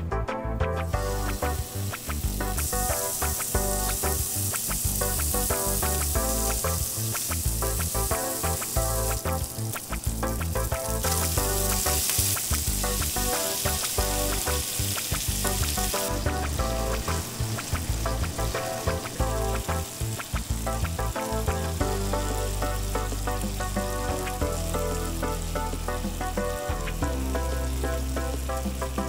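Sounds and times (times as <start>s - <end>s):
food sizzling in frying pan: 0.9s - 29.0s.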